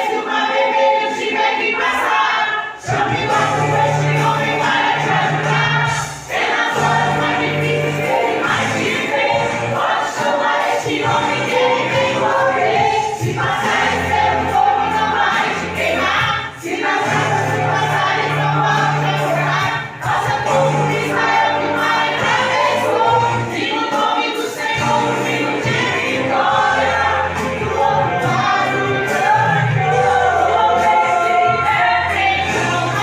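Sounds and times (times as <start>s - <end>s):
women singing gospel song: 0.0s - 33.0s
instrumental bass accompaniment: 2.9s - 10.1s, 10.9s - 23.7s, 24.8s - 33.0s.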